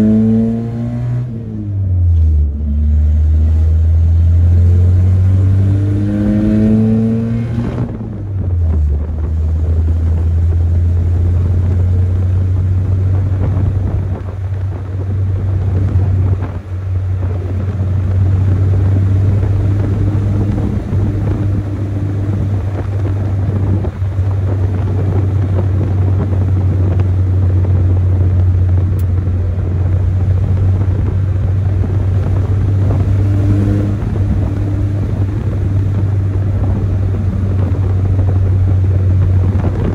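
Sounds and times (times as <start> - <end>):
pickup engine revving: 0.0 - 39.9.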